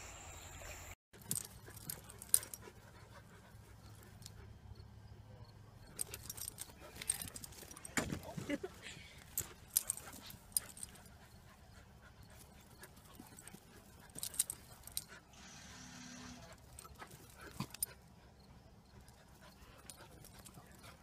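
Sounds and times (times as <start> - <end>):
puppies panting: 1.2 - 5.0, 5.8 - 21.0.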